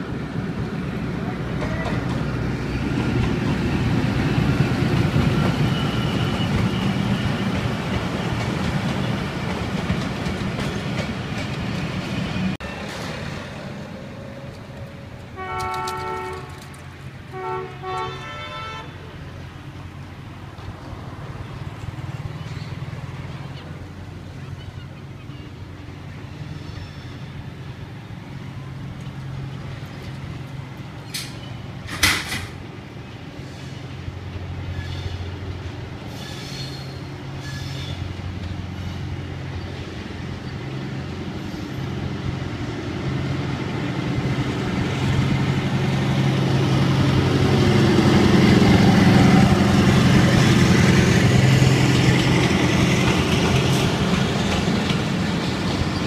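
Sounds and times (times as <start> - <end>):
locomotive engine hum: 0.0 - 56.0
rumble of train wheels: 0.0 - 56.0.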